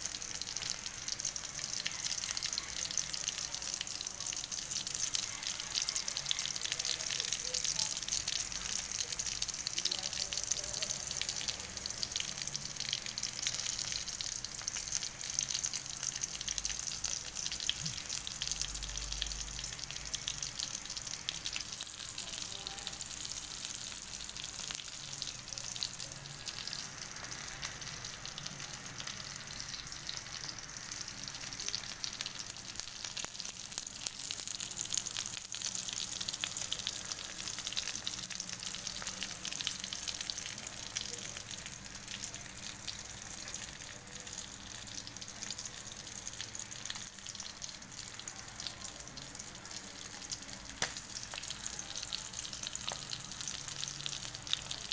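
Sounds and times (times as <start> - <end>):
fish sizzling in hot oil: 0.0 - 54.9.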